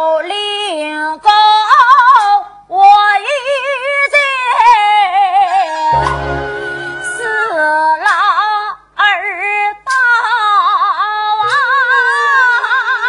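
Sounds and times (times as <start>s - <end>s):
woman singing with vibrato: 0.0s - 13.0s.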